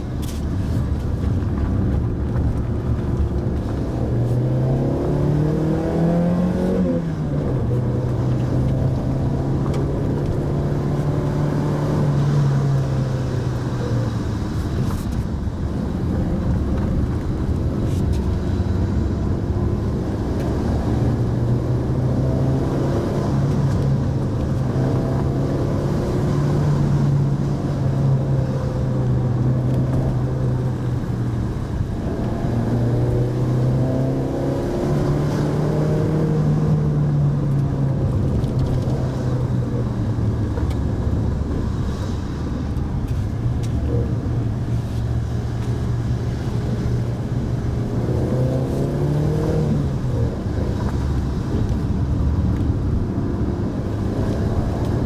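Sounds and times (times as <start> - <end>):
car engine revving while driving: 0.0 - 55.0.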